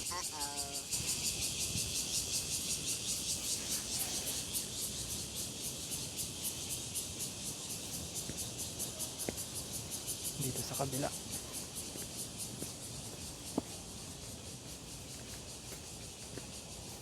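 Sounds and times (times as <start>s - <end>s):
insects buzzing shrilly: 0.0s - 17.0s.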